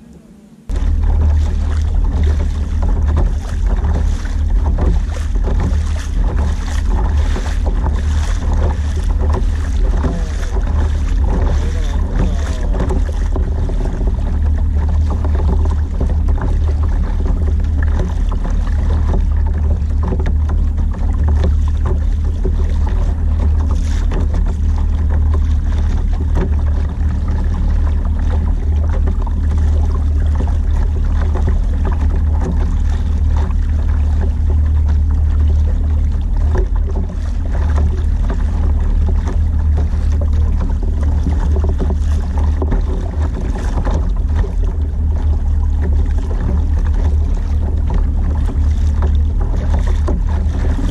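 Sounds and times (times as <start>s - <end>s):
water splashing against hull: 0.0s - 50.9s
wind rumble on microphone: 0.0s - 50.9s.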